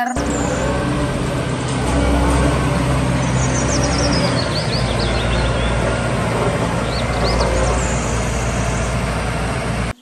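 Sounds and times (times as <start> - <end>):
birds chirping: 0.0 - 9.3
diesel engine running: 0.0 - 10.0.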